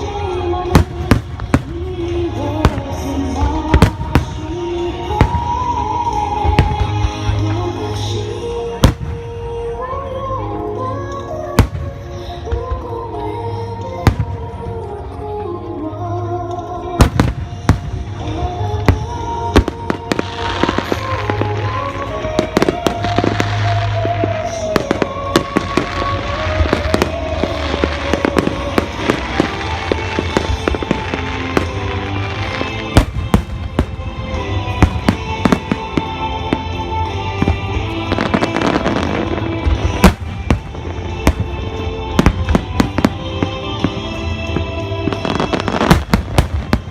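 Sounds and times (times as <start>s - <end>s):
fireworks bursting: 0.0s - 9.4s, 17.0s - 46.9s
fireworks crackling: 0.0s - 9.8s, 16.9s - 46.9s
slow music over loudspeakers: 0.0s - 46.9s.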